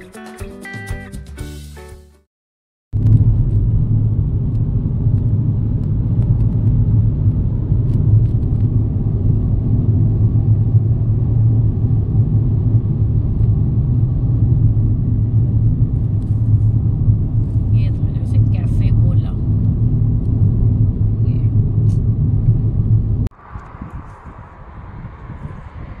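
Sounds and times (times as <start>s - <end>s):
car cruising heard from cabin: 3.0s - 26.0s.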